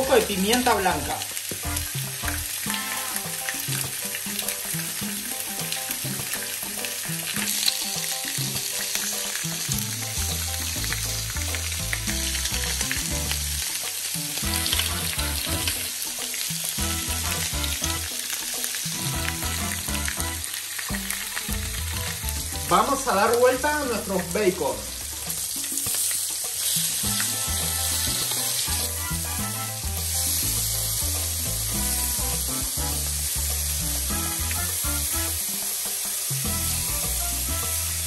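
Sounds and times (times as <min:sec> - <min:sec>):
bacon sizzling in pan: 0:00.0 - 0:38.0.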